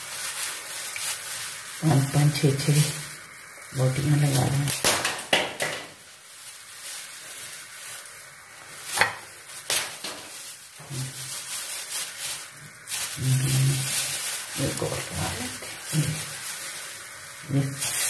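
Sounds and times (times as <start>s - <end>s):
meat rubbing on skewers: 0.0s - 4.9s, 6.0s - 18.0s.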